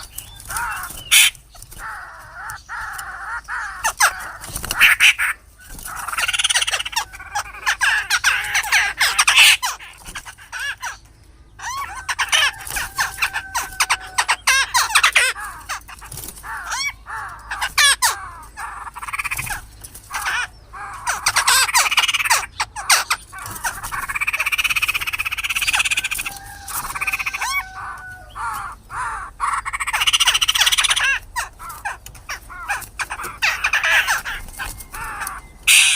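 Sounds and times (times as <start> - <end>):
birds harsh scolding chatter: 0.0 - 35.9.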